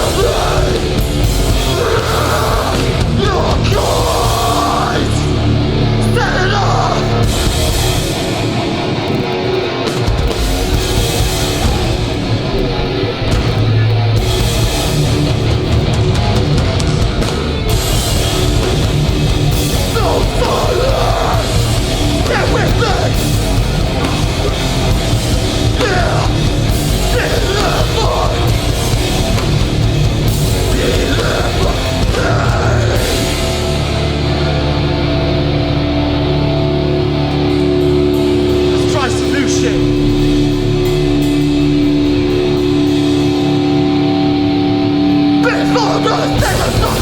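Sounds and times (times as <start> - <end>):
live hardcore band playing: 0.0 - 47.0.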